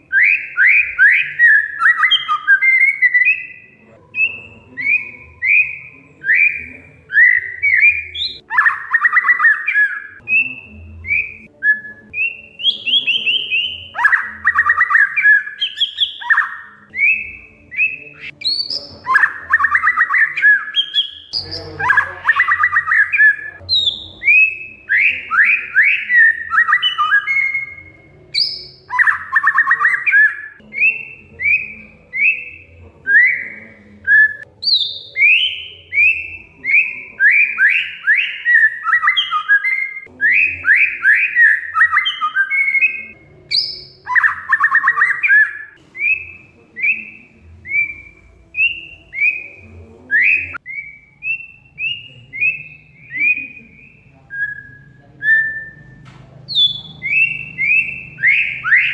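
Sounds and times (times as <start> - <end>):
bird harsh chattering: 0.0 - 47.3.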